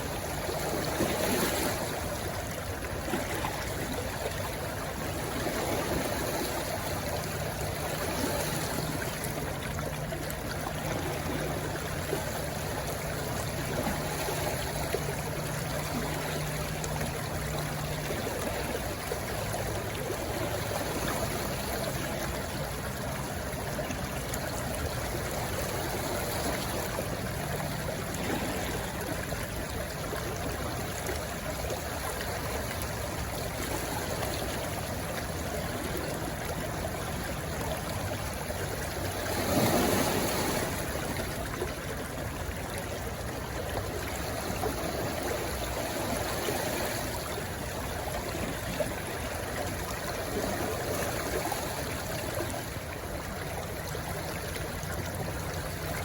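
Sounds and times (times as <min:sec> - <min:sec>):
stream rushing over rocks: 0:00.0 - 0:56.0
surge of water: 0:00.0 - 0:56.0.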